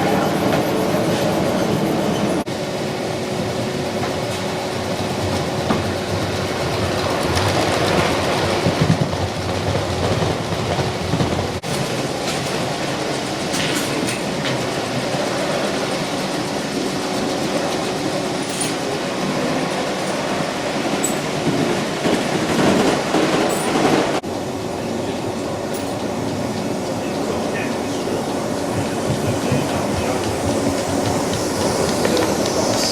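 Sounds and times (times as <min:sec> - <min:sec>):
model train running on track: 0:00.0 - 0:32.9.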